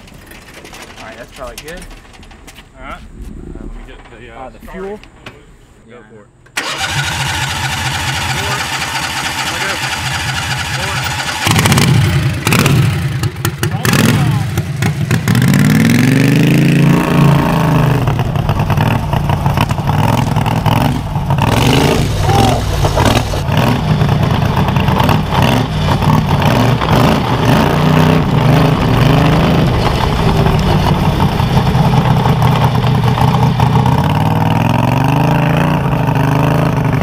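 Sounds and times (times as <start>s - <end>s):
lawn mower engine revving: 6.6s - 37.0s.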